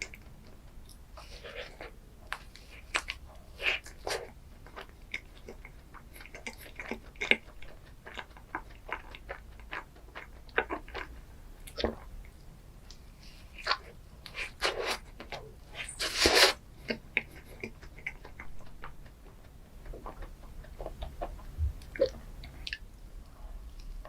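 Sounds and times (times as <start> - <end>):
wet chewing and mouth clicks: 0.0 - 22.9.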